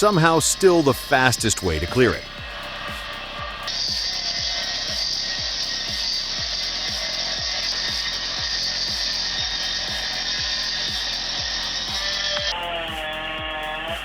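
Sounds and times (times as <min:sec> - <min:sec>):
chainsaw cutting wood: 0:00.0 - 0:14.0
music with drum beat: 0:00.0 - 0:14.0.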